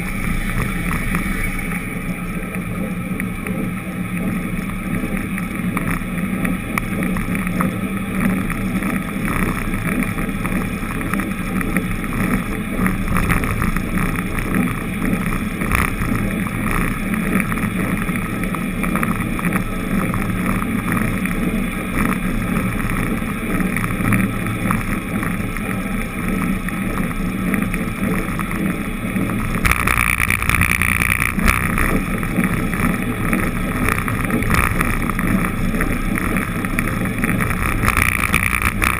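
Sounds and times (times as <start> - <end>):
vehicle road noise: 0.0 - 38.9.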